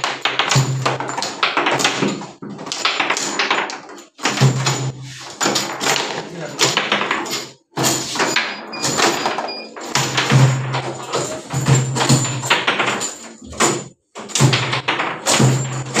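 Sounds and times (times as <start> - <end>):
foosball ball clattering: 0.0 - 16.0
foosball rods knocking: 0.0 - 16.0.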